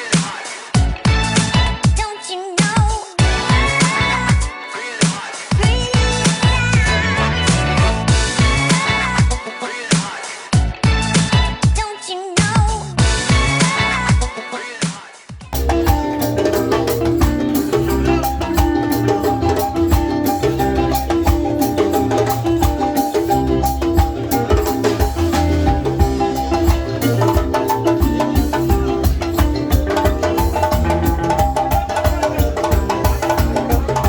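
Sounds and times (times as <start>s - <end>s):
band music with quick percussion: 2.6s - 11.8s, 15.5s - 34.0s.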